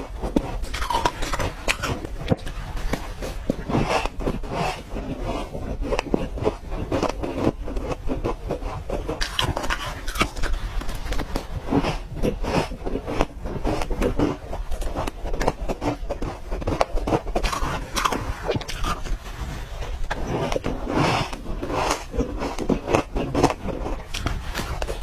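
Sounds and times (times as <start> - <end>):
ice crunched between teeth: 0.0 - 5.1, 5.8 - 25.0.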